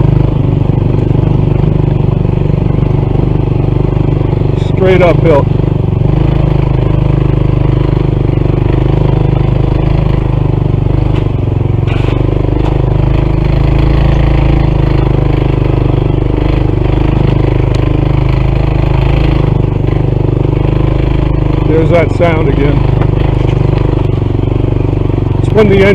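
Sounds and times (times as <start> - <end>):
metallic engine clatter: 0.0 - 25.9
motorcycle engine labouring: 0.0 - 25.9.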